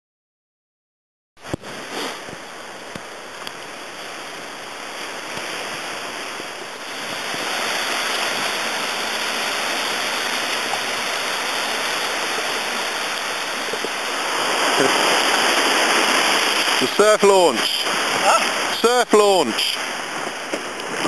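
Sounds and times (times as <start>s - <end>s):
waves washing up sandy beach: 1.4s - 21.0s.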